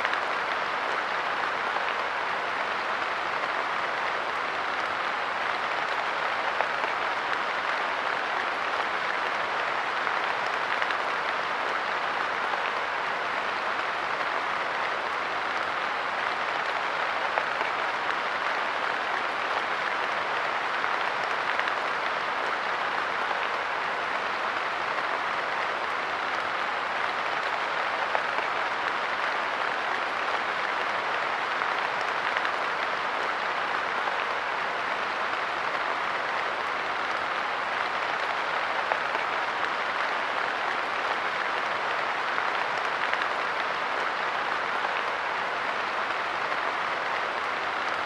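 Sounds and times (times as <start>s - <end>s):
light rain patter: 0.0s - 48.0s.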